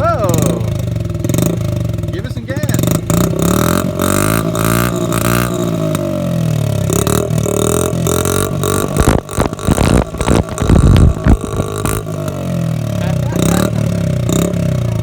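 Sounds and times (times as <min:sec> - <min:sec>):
dirt bike engine revving: 0:00.0 - 0:15.0
exhaust backfire pops: 0:00.0 - 0:15.0.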